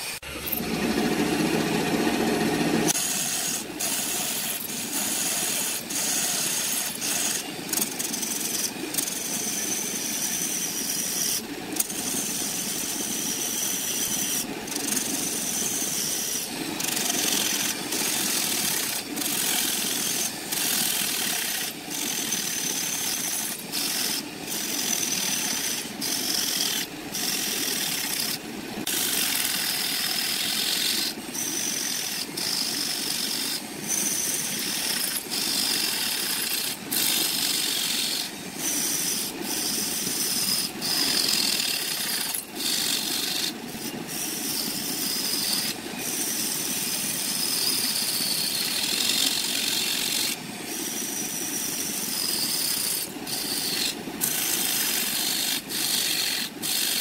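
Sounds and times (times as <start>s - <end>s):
lathe tool scraping wood: 0.0s - 57.0s.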